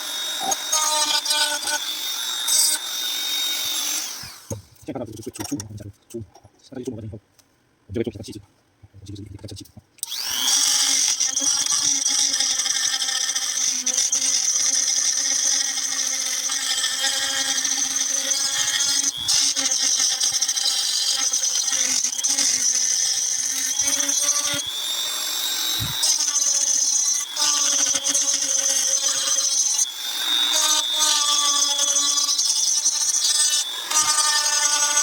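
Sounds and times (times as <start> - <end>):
rotary tool grinding: 0.0 - 4.6, 10.0 - 35.0.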